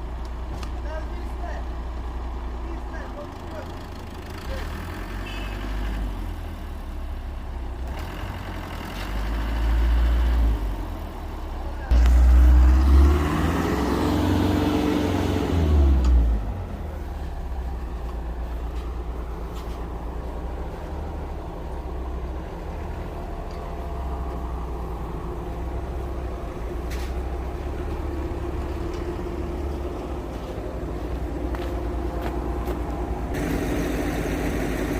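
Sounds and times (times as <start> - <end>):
truck engine revving and idling: 0.0 - 34.9.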